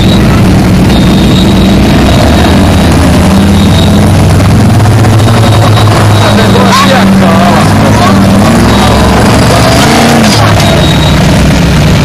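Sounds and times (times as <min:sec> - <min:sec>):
buggy engine under load: 0:00.0 - 0:12.0.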